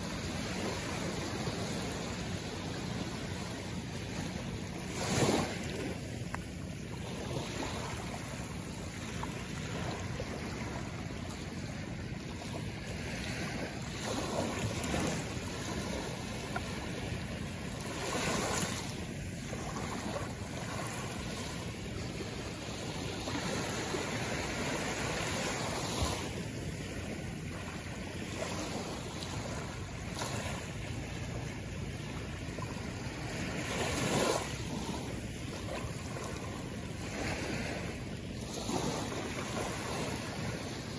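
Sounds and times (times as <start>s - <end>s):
small waves washing on shore: 0.0s - 40.9s.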